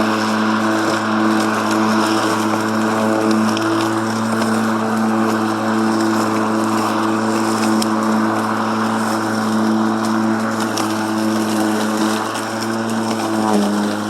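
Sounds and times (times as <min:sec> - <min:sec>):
lawn mower cutting grass: 0:00.0 - 0:14.0.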